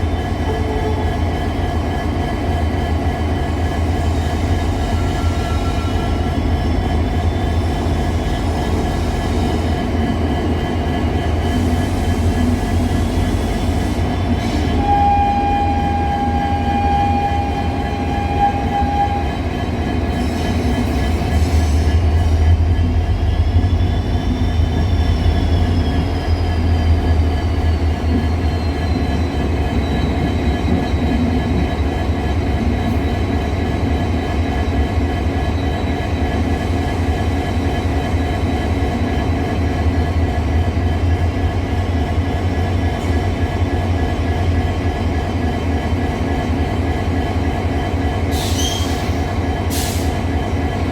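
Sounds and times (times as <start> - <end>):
diesel locomotive engine idling: 0.0 - 50.9.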